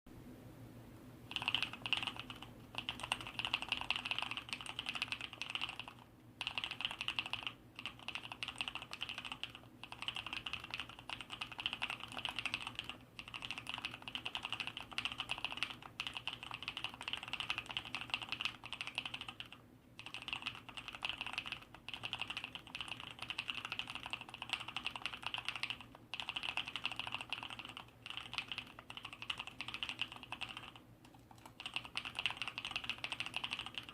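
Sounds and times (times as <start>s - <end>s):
mechanical keyboard typing: 1.3s - 33.9s.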